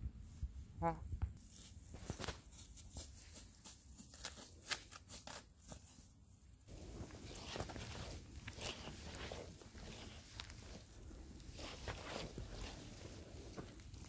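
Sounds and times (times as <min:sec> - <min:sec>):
footsteps on dry leaves: 0:01.4 - 0:06.0, 0:06.7 - 0:14.0
soft rustle: 0:01.4 - 0:14.0.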